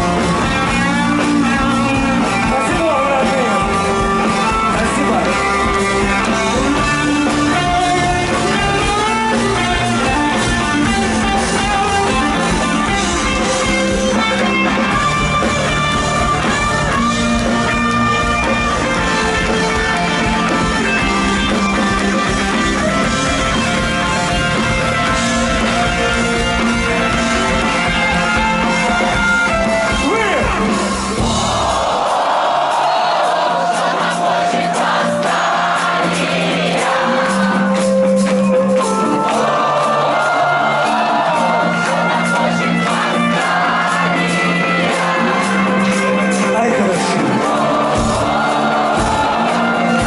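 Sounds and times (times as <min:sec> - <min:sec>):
electric guitar: 0:00.0 - 0:31.8, 0:34.5 - 0:50.0
bass guitar: 0:00.0 - 0:33.2, 0:34.2 - 0:50.0
drum kit: 0:00.0 - 0:50.0.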